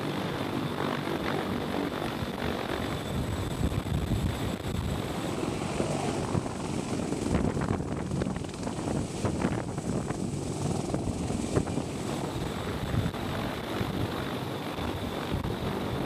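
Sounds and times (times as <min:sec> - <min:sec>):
helicopter rotor and turbine: 0:00.0 - 0:16.0
wind buffeting microphone: 0:01.5 - 0:16.0.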